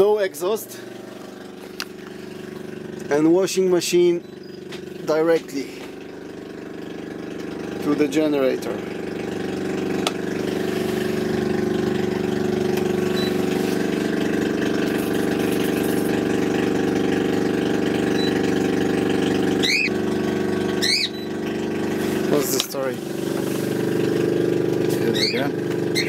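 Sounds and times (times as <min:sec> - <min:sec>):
small generator running: 0:00.0 - 0:26.0.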